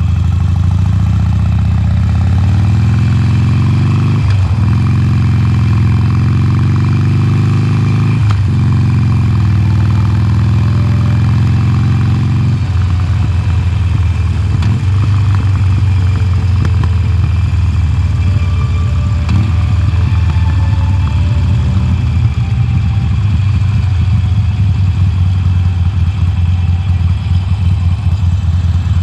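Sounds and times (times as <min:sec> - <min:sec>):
motorcycle engine under throttle: 0:00.0 - 0:29.0.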